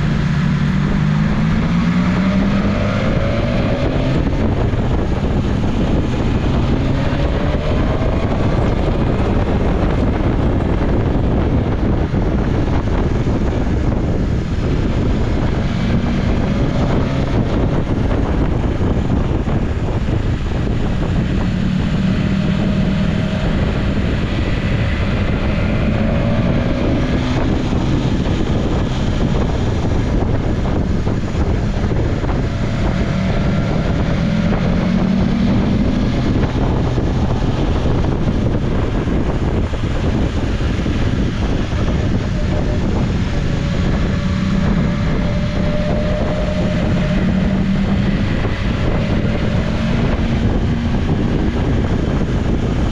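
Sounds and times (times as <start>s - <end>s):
motorcycle engine revving: 0.0s - 52.9s
wind rush on microphone: 0.0s - 52.9s.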